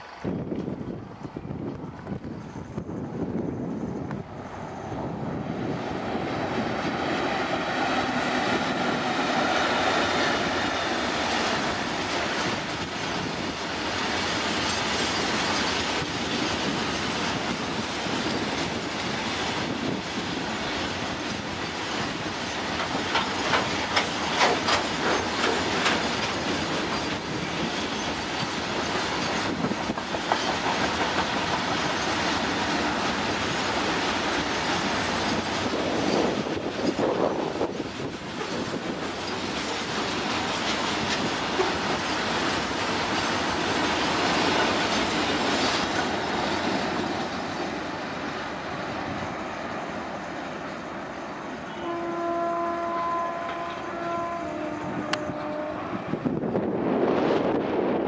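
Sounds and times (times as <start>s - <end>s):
electric locomotives passing: 0.0s - 58.0s.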